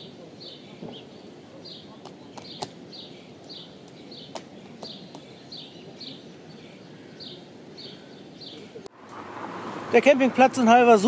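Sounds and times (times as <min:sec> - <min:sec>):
songbird calling: 0:00.0 - 0:08.9.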